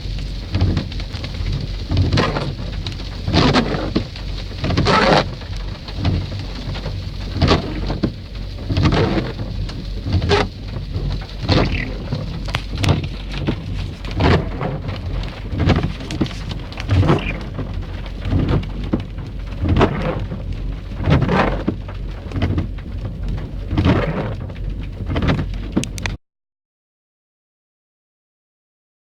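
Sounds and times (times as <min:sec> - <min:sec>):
rain falling: 0:00.0 - 0:26.2.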